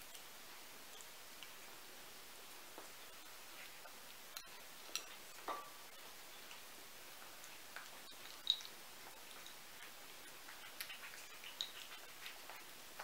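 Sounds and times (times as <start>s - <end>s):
kitten chewing food: 0.0s - 13.0s.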